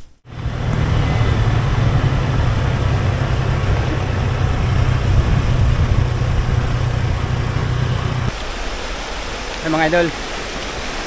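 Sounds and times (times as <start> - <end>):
even rushing noise: 0.0 - 11.0.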